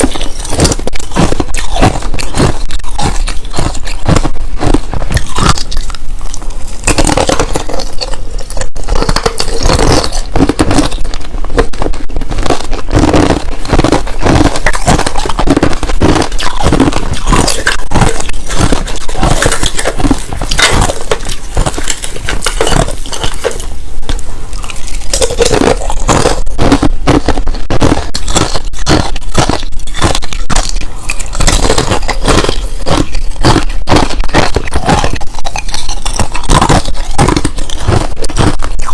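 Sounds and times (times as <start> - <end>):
chewing crushed ice: 0.0 - 38.9.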